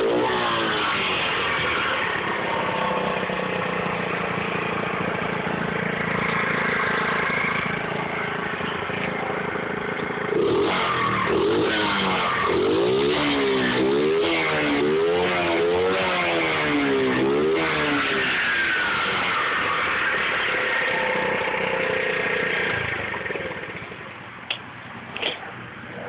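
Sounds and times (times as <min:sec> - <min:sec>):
small motorbike engine revving: 0:00.0 - 0:24.1.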